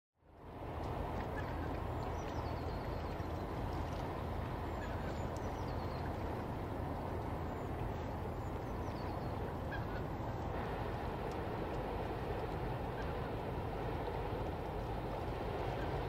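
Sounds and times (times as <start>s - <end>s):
ship engine drone: 0.4s - 16.0s.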